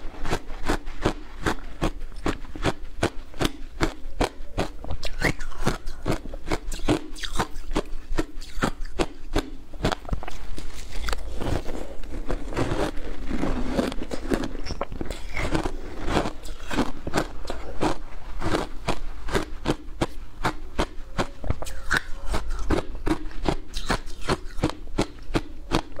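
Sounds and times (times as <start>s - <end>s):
crisp crunches of chewing ice: 0.2s - 26.0s.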